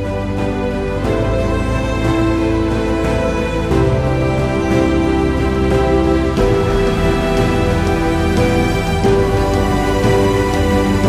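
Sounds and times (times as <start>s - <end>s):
sustained instrumental soundtrack: 0.0s - 11.0s.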